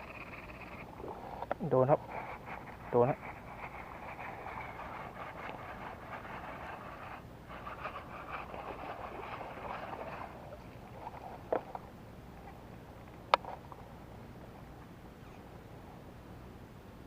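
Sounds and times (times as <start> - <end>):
rustling and scraping of reeling: 0.0 - 13.9.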